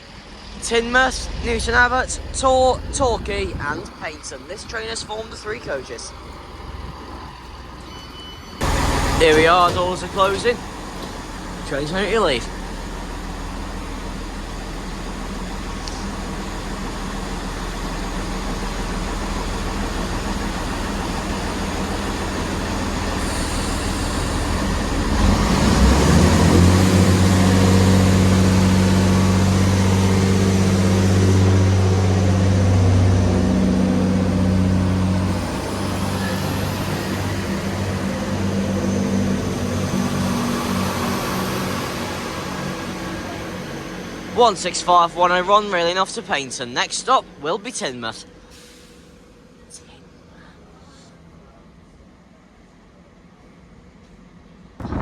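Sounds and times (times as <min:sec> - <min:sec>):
diesel train engine revving: 0:00.0 - 0:50.3.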